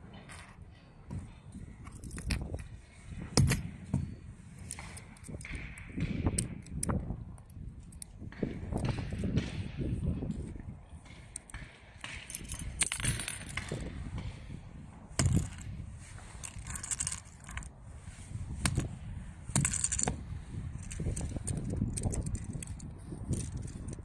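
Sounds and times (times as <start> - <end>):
metal carabiner clips clinking: 0.1 - 9.3, 10.1 - 14.5, 15.1 - 24.0.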